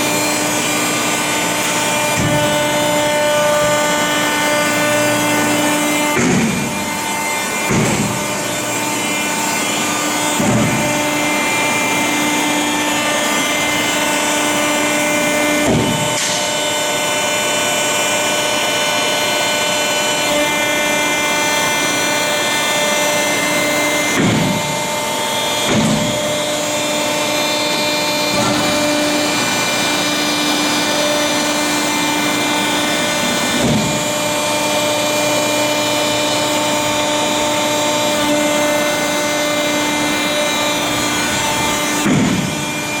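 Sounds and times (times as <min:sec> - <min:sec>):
baler mechanical hum: 0:00.0 - 0:43.0.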